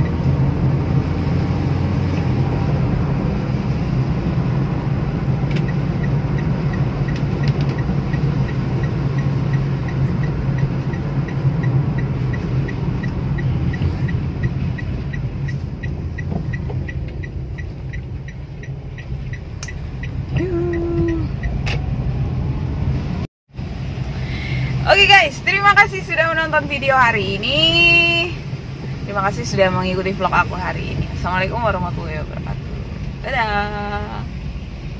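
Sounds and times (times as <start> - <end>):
car engine and tyre rumble: 0.0 - 34.9
turn signal ticking: 0.0 - 34.9.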